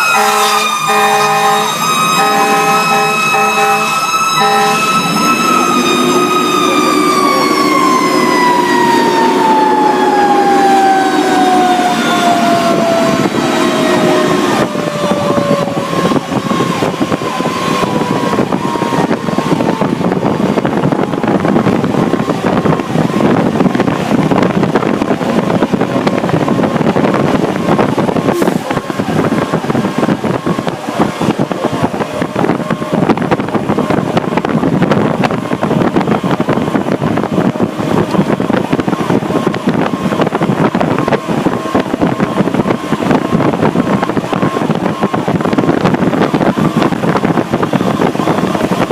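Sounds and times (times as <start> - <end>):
siren winding down: 0.0 - 48.9
truck engine and road noise: 0.0 - 48.9.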